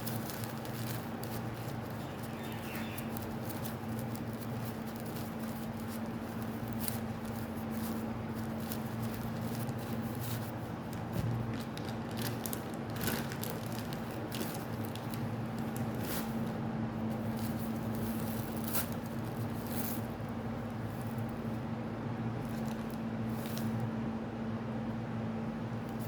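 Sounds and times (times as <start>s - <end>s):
plastic packaging crinkling: 0.0s - 21.4s, 22.4s - 23.9s
steady low hum: 0.0s - 26.0s.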